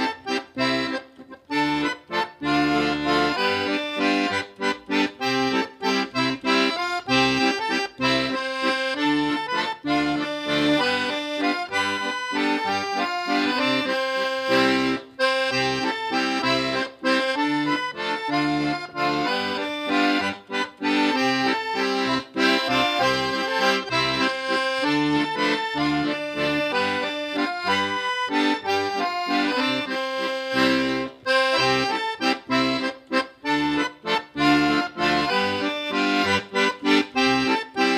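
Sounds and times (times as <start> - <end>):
instrumental music with bass line: 0.0 - 37.9.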